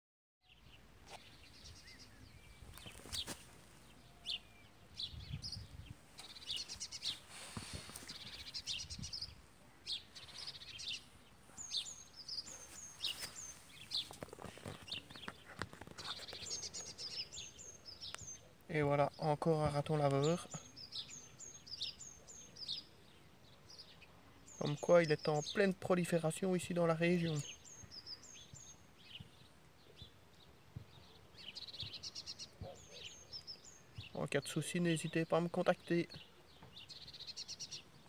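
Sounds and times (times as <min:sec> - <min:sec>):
birds chirping and singing: 0:00.5 - 0:38.0.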